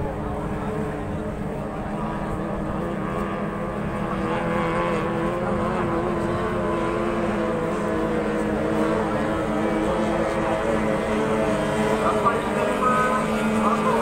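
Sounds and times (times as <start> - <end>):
speedboat engines droning: 0.0 - 14.0.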